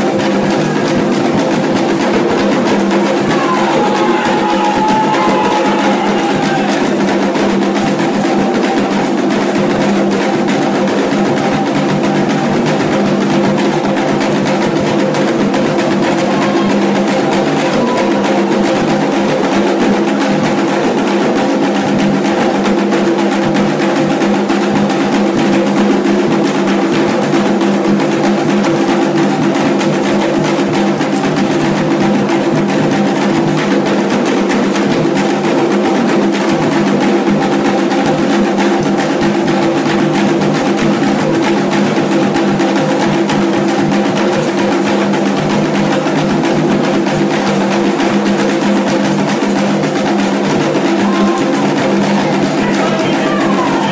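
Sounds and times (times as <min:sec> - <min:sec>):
hand drums playing fast rhythm: 0:00.0 - 0:53.9.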